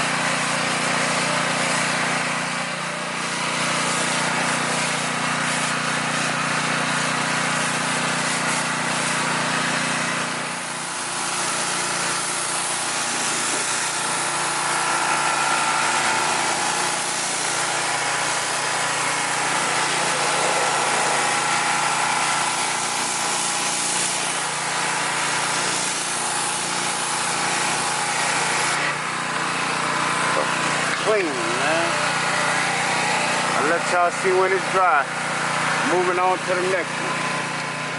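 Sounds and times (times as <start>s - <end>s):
pressure washer motor humming: 0.0s - 37.9s
water jet hissing: 0.0s - 37.9s.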